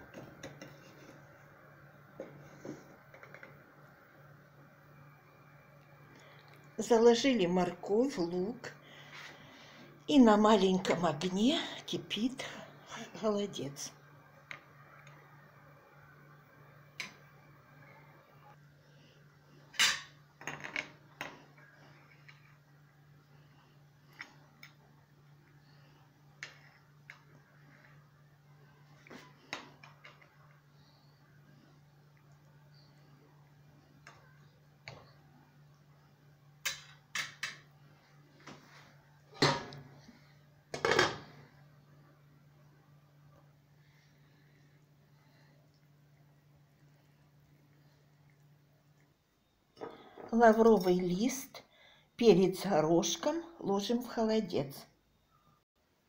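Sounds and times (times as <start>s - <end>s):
steady low hum: 0.0s - 53.6s.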